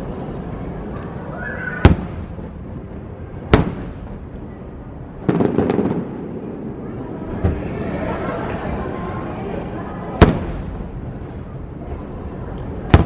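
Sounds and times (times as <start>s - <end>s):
fireworks crackling: 0.0s - 13.0s
fireworks booming: 0.3s - 13.0s.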